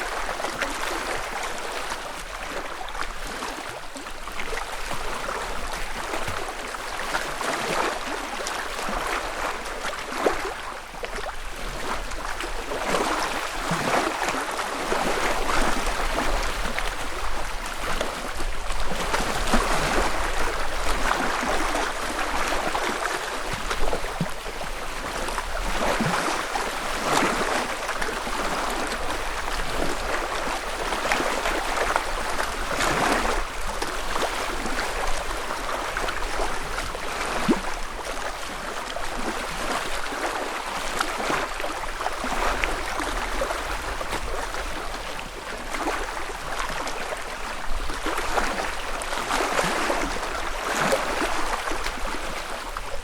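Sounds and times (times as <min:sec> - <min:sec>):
lake waves lapping on shore: 0:00.0 - 0:53.0.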